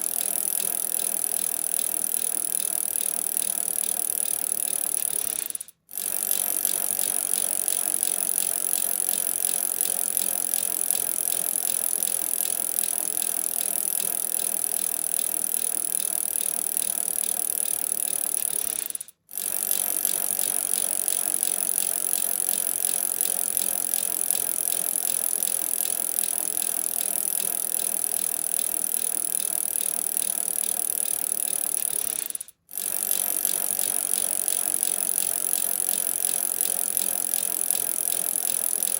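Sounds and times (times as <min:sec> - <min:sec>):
bicycle chain ticking rattle: 0:00.0 - 0:38.9.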